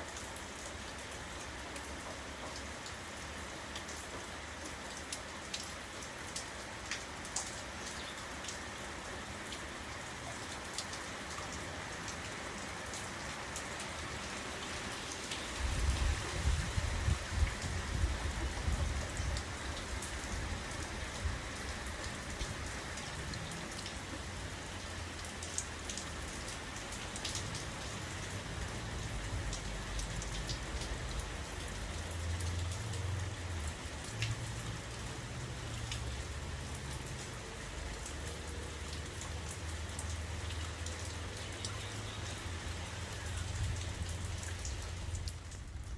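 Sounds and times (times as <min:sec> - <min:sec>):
steady rain falling: 0:00.0 - 0:45.9
raindrops clicking near microphone: 0:00.1 - 0:08.7, 0:10.2 - 0:24.1, 0:24.7 - 0:45.9.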